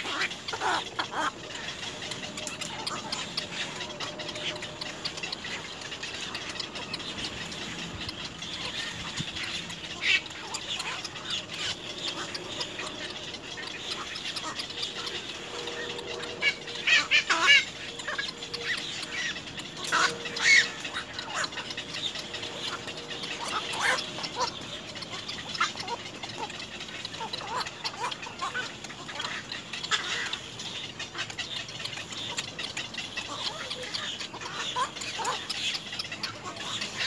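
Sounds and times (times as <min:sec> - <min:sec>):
heron nestlings calling: 0:00.0 - 0:37.0.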